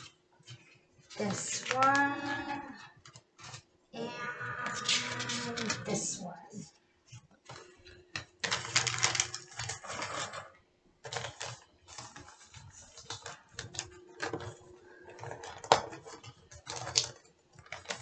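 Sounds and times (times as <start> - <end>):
gift wrap rustling and crinkling: 0.0 - 18.0.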